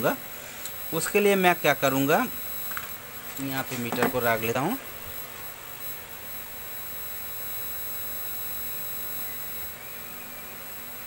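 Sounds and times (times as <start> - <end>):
television high-pitched whine: 0.0 - 11.0.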